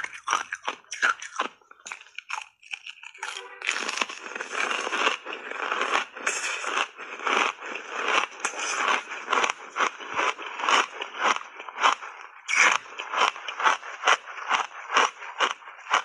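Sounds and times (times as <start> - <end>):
ice being chewed crunching: 0.0 - 16.0.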